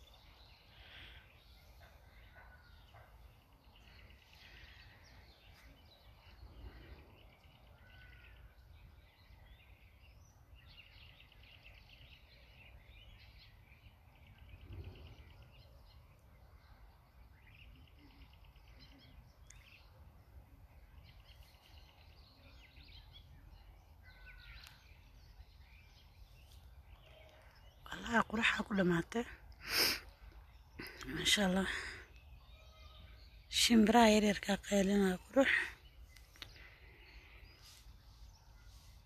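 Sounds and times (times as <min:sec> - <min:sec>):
faint birds chirping: 0:00.0 - 0:39.0.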